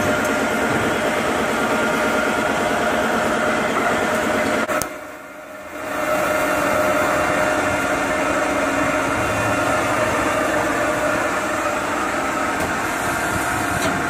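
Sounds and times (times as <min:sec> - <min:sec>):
lathe machine drone: 0:00.0 - 0:14.0.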